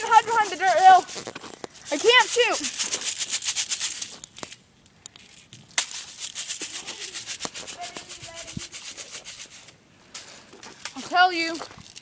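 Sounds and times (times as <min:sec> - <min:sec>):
rhythmic rustling and crackling: 0:00.0 - 0:04.6, 0:05.7 - 0:12.0.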